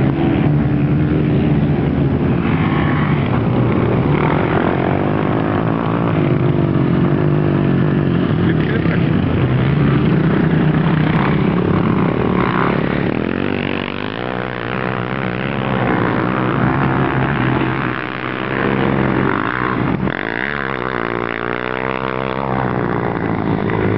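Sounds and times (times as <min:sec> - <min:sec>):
quad bike engines revving: 0:00.0 - 0:23.9.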